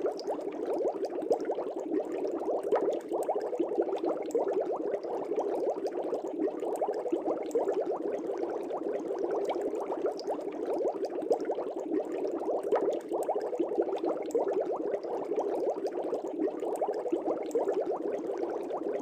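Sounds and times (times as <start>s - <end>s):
air bubbles in water: 0.0s - 19.0s.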